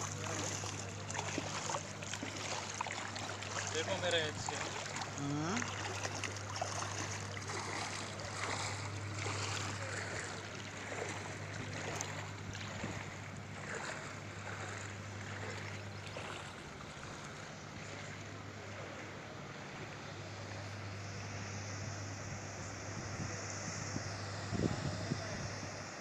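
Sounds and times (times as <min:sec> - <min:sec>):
even wash of noise: 0:00.0 - 0:26.0
steady low hum: 0:00.0 - 0:26.0.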